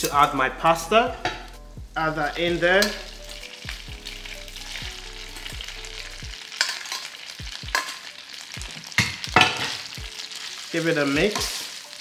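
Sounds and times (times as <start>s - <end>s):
fat sizzling in a pan: 1.2s - 12.0s.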